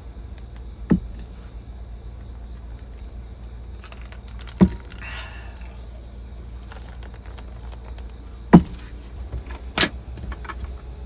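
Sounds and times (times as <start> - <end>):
crickets and insects chirring: 0.0 - 11.0.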